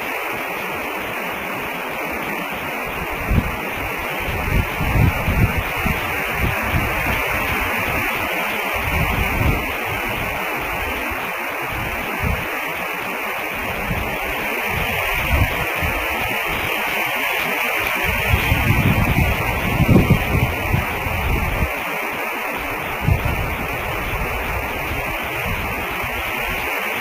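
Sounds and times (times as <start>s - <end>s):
static-like hiss: 0.0s - 27.0s.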